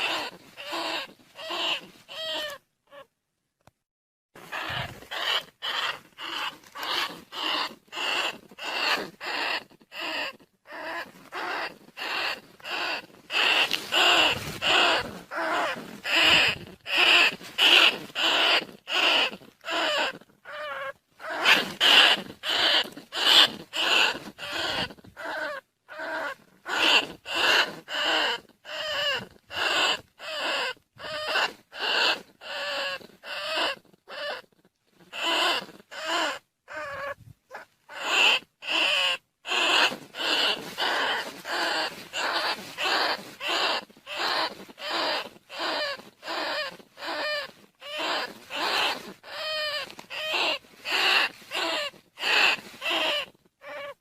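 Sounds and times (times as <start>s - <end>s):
rat squeaking calls: 0.0s - 3.1s, 4.4s - 54.0s.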